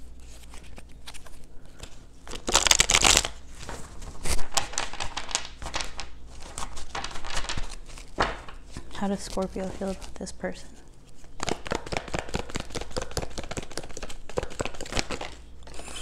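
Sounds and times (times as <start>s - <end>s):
cards being shuffled: 0.2s - 10.3s, 11.1s - 15.4s.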